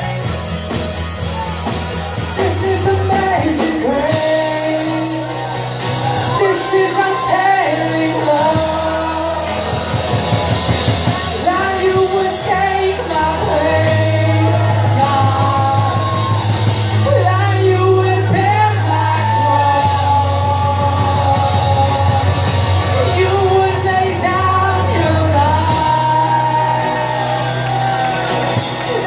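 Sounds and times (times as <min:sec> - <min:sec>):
long held bass notes: 0:00.0 - 0:29.0
worship band playing: 0:00.0 - 0:29.0
people singing melody: 0:02.3 - 0:28.0.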